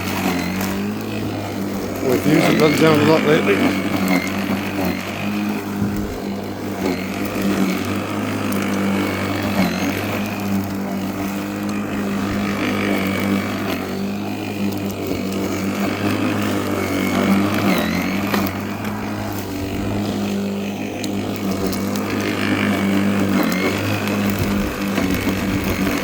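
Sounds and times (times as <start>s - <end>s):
electric lawnmower running: 0.0s - 26.0s
mower blade cutting grass: 0.0s - 26.0s.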